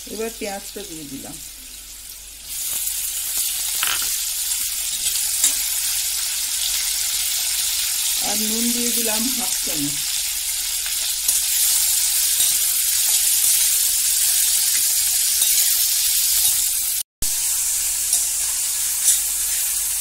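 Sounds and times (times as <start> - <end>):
onions and potatoes sizzling in oil: 0.0 - 20.0.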